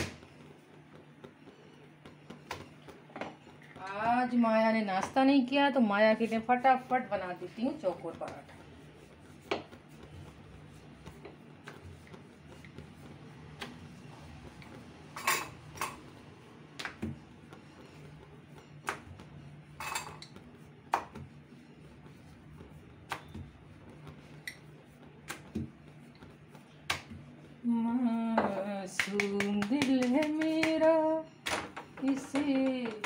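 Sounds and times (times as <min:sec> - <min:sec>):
rolling pin rolling dough: 0:00.0 - 0:33.0.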